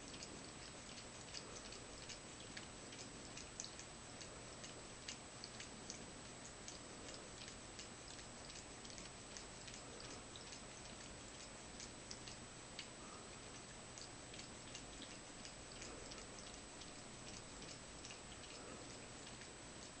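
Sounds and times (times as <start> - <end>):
cat lapping water: 0.0 - 20.0
low hiss: 0.0 - 20.0.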